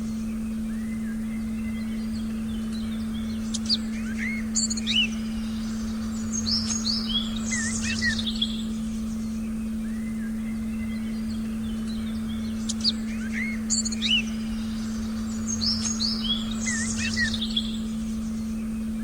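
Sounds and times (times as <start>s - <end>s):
forest birds chirping: 0.0s - 19.0s
low drone tone: 0.0s - 19.0s.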